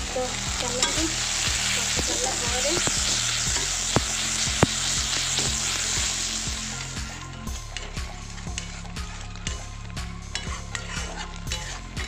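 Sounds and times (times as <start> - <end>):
metal spatula scraping a pan: 0.0 - 12.0
tomatoes sizzling in hot oil: 0.0 - 12.0.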